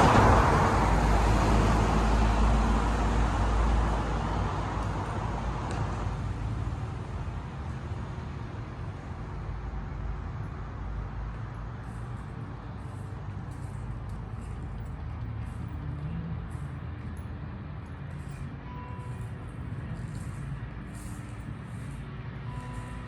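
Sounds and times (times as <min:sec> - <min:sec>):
vehicle engine and tyre noise: 0:00.0 - 0:23.0.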